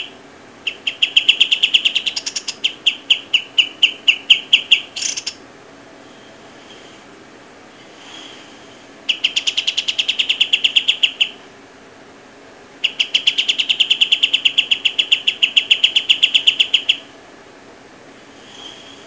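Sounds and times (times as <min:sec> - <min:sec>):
animal pulsed trill: 0:00.0 - 0:19.0.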